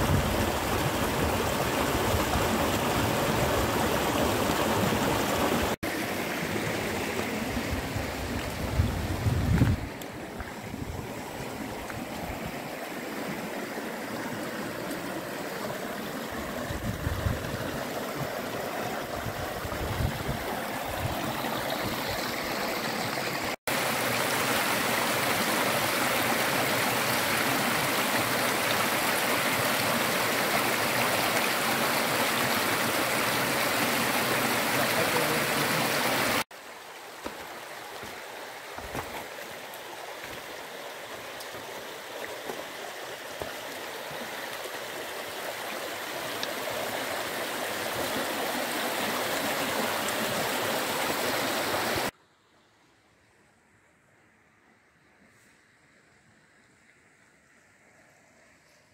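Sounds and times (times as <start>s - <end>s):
stream rushing over stones: 0.0s - 52.2s.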